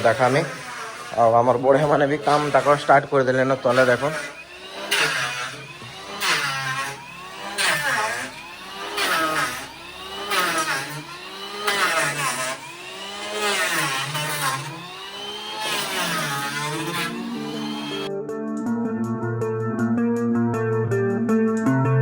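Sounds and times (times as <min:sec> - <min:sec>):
power tool cutting wood: 0:00.0 - 0:18.1.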